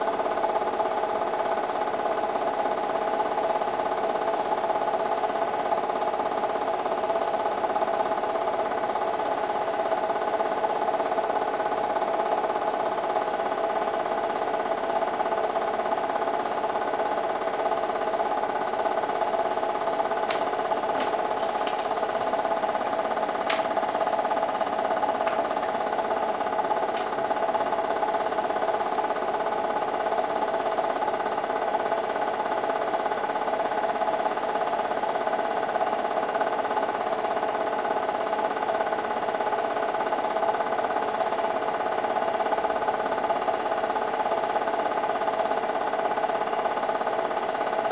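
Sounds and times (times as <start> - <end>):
film projector whirring: 0.0 - 47.9.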